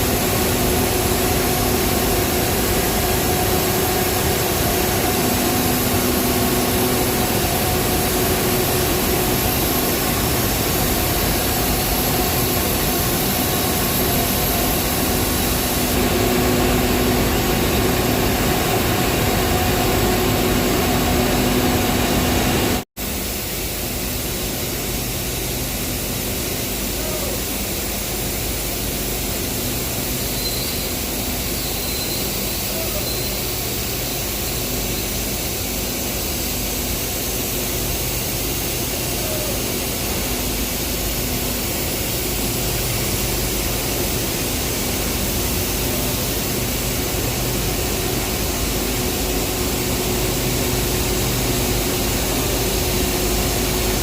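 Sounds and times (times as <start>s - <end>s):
industrial machinery humming: 0.0s - 54.0s.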